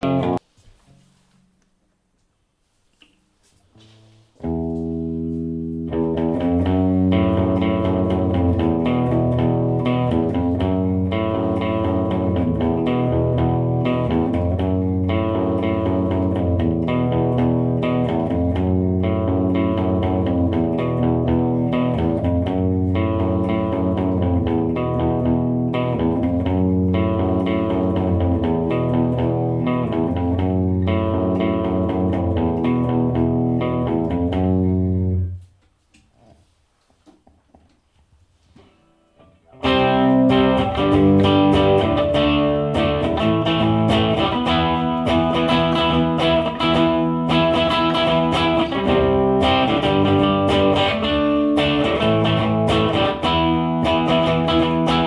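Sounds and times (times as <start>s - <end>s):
electric guitar playing: 0.0s - 0.5s, 3.8s - 35.4s, 38.9s - 55.0s.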